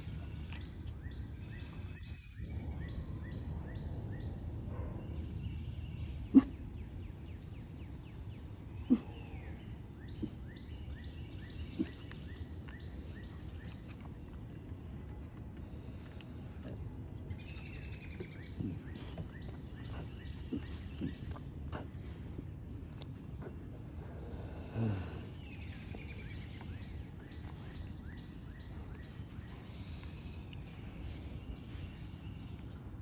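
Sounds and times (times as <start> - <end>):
low background noise: 0.0 - 33.0
small birds chirping: 0.0 - 33.0.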